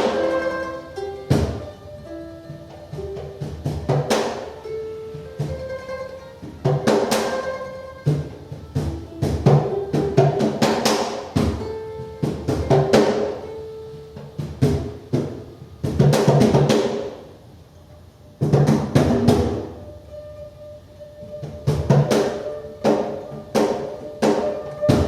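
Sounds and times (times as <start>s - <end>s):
congas struck by hand: 0.0s - 17.4s, 18.4s - 20.0s, 21.3s - 25.0s
held pitched instrument notes: 0.0s - 25.0s.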